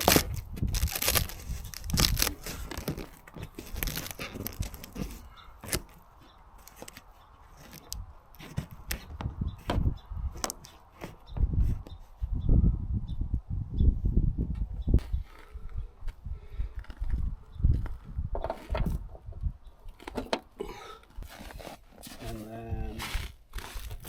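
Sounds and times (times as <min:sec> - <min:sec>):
rustling and crinkling: 0:00.0 - 0:12.2, 0:14.5 - 0:24.0.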